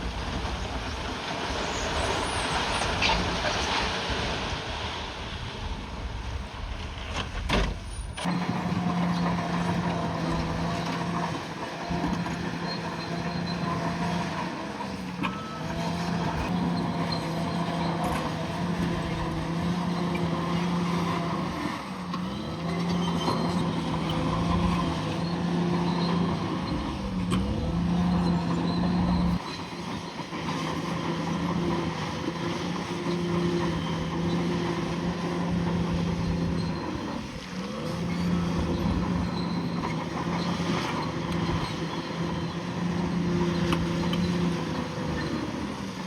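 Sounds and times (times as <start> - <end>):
bulldozer diesel engine under load: 0.0 - 46.0.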